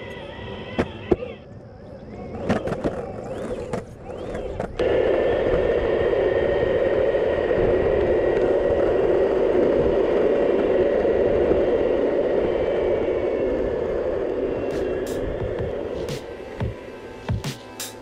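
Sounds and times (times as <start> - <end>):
faint high motor whine: 0.0 - 18.0
skateboard wheels rolling on asphalt: 0.0 - 18.0.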